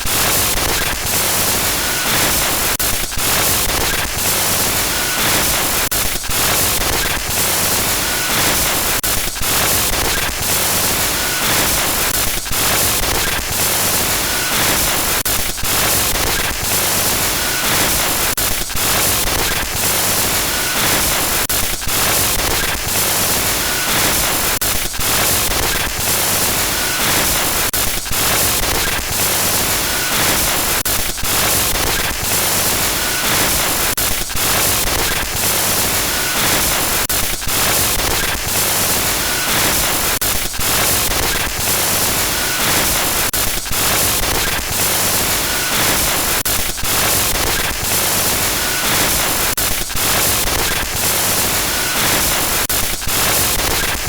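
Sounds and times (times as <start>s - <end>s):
loud static hiss: 0.0s - 54.0s.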